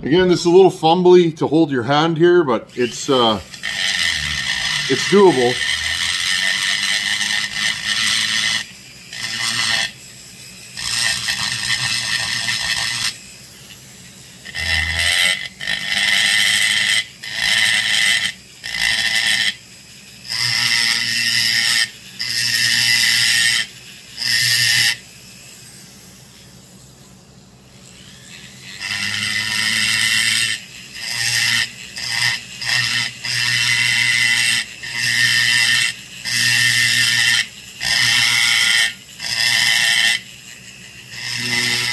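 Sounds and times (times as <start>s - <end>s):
rotary grinder cutting metal: 2.6s - 41.9s.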